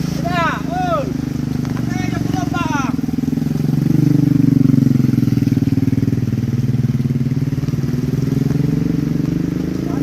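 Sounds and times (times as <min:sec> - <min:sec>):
truck diesel engine labouring: 0:00.0 - 0:10.0.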